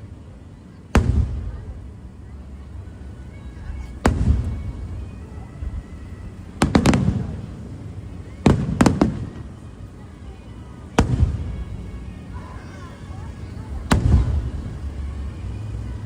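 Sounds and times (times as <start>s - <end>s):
fireworks bursting: 0.0s - 15.9s
low rolling rumble: 0.0s - 16.0s.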